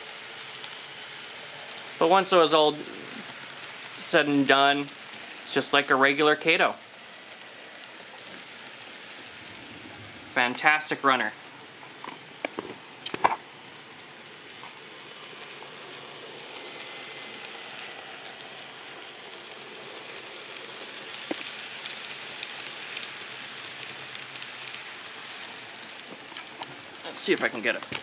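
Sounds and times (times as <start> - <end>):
model train whirring: 0.0 - 28.0.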